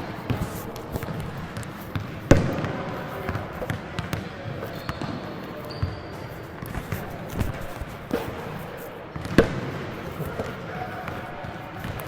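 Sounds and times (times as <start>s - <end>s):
basketball bouncing on hard court: 0.0s - 6.0s, 6.6s - 12.0s.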